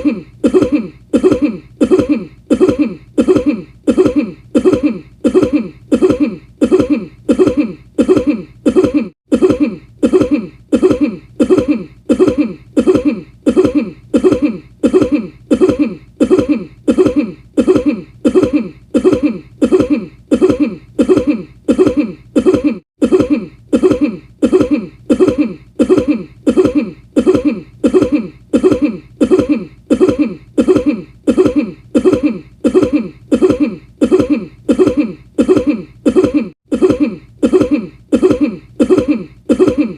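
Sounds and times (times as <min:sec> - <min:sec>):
person coughing: 0:00.0 - 0:39.9.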